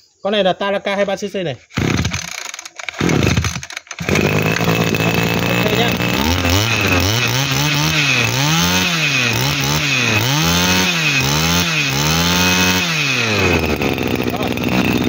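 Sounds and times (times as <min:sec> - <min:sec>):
brush cutter engine revving: 0:01.7 - 0:15.0.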